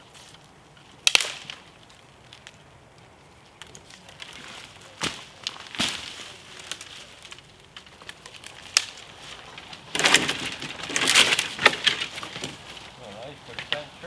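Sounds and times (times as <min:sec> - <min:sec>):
dry twigs crackling and snapping: 0:00.0 - 0:14.0.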